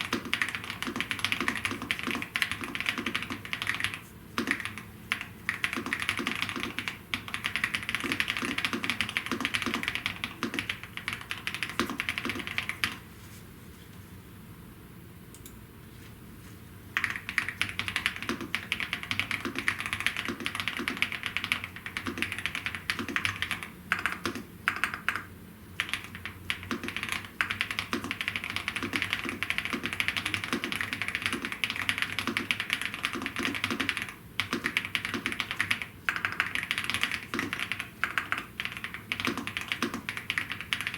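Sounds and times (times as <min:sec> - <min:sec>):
fast typing on mechanical keyboard: 0:00.0 - 0:13.0, 0:17.0 - 0:40.9.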